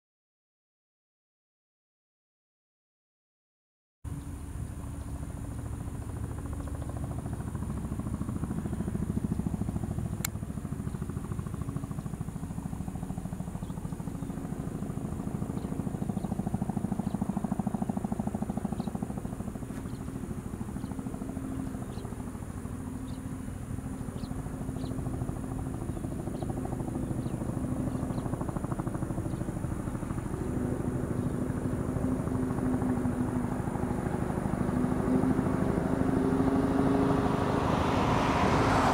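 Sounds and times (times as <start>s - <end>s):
helicopter rotor beats: 4.1s - 38.9s.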